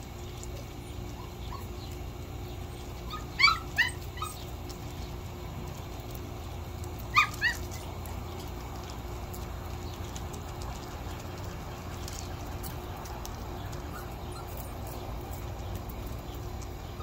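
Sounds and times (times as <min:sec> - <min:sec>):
puppies yipping: 0:00.4 - 0:17.0.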